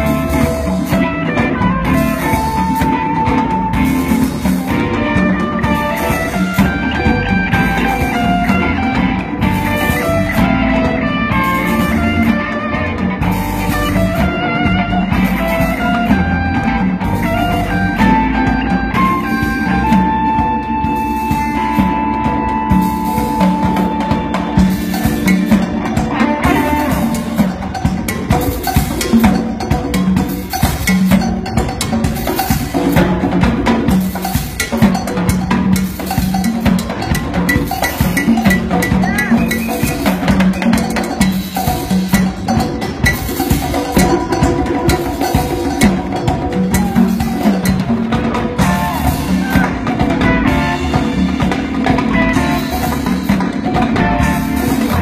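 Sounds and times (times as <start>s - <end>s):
drum kit: 0.0s - 55.0s
guitar: 0.0s - 55.0s
rock band playing live: 0.0s - 55.0s.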